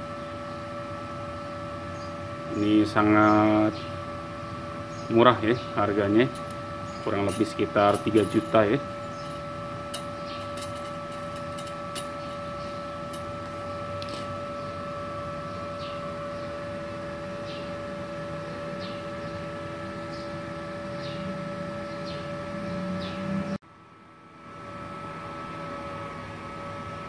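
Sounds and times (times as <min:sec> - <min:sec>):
welder humming with high whine: 0:00.0 - 0:27.0.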